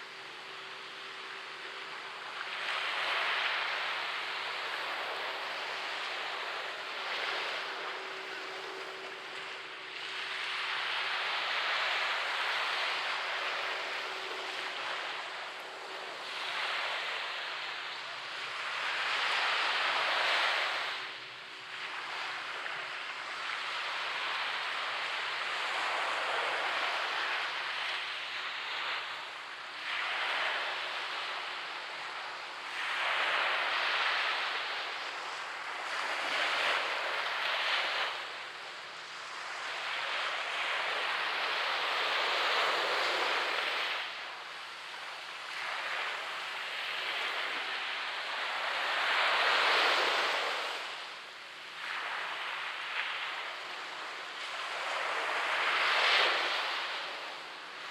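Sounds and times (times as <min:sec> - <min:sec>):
waves breaking on beach: 0:00.0 - 0:57.9.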